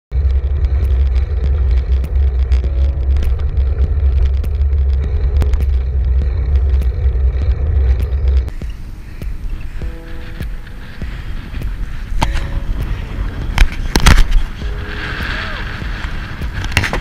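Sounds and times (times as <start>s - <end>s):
road noise: 0.1s - 17.0s
wind buffeting microphone: 0.1s - 17.0s.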